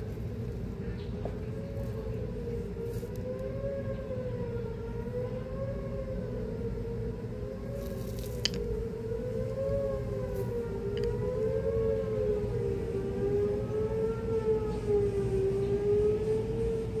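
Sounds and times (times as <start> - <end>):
low steady rumble: 0.0 - 17.0
siren wavering tone: 1.4 - 17.0.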